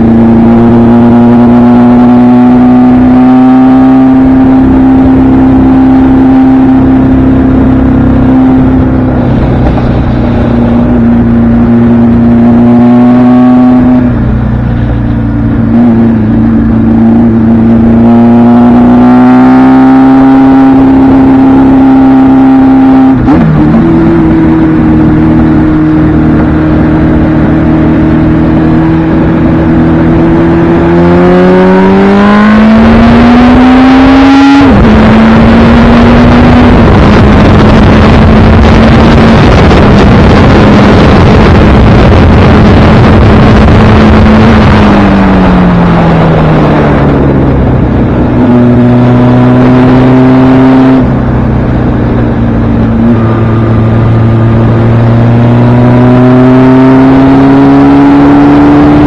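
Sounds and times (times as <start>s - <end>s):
motorcycle engine revving: 0.0s - 59.0s
wind rushing: 4.3s - 59.0s.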